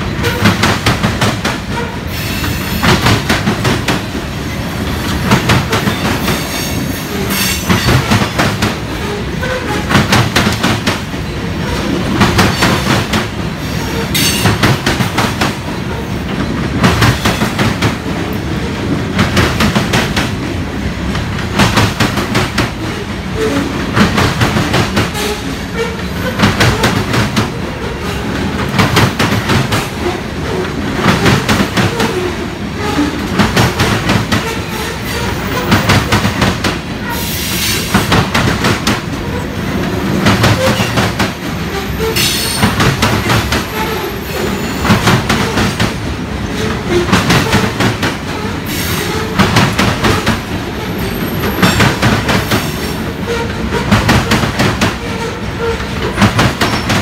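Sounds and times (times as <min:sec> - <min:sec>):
train rumble: 0:00.0 - 0:57.0
train wheels clicking over joints: 0:00.1 - 0:57.0.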